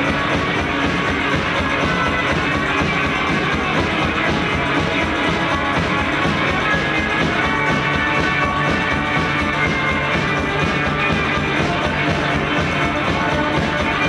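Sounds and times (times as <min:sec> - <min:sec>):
electric guitar: 0:00.0 - 0:14.0
live rock band playing: 0:00.0 - 0:14.0.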